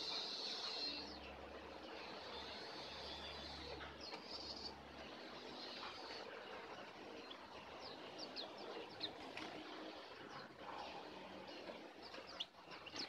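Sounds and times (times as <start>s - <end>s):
birds giving high chirps: 0.0s - 13.0s.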